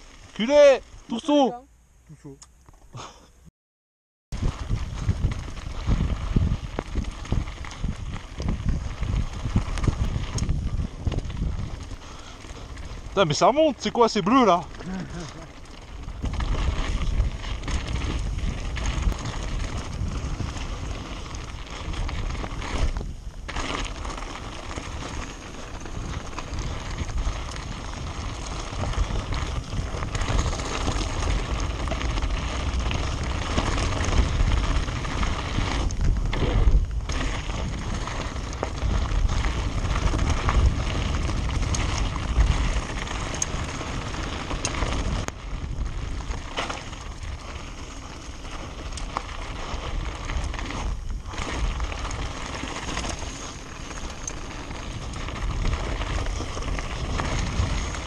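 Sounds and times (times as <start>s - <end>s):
bike rattling: 0.0s - 1.5s, 4.3s - 58.0s
wind buffeting microphone: 4.3s - 58.0s
tyres crunching over gravel: 4.4s - 58.0s.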